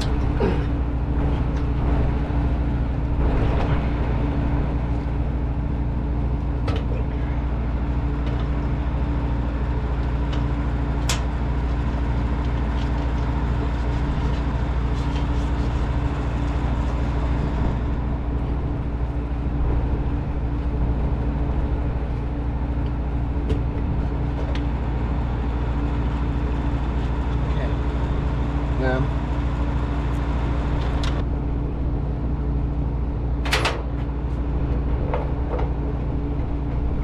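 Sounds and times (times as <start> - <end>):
mechanical drone: 0.0 - 37.0.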